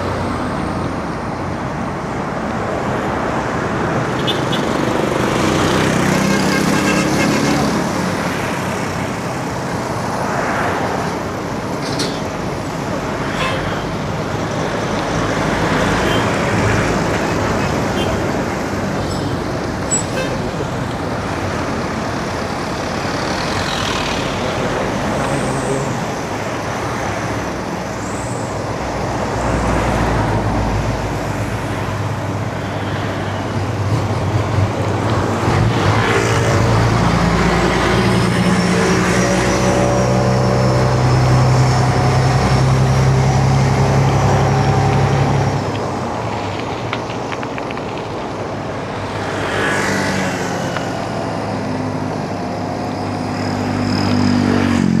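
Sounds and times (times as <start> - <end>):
heavy vehicle engine drone: 0.0 - 55.0
road traffic rushing: 0.0 - 55.0.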